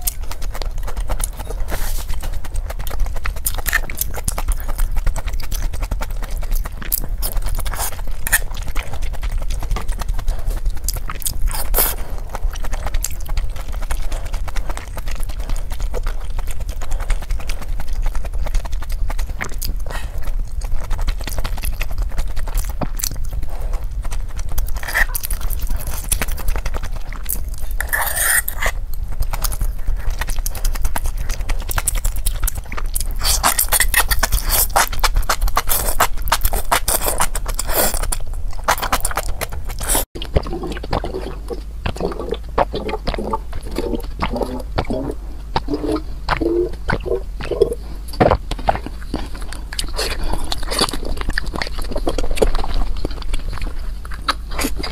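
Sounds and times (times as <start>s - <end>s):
wet chewing and slurping: 0.0s - 54.9s.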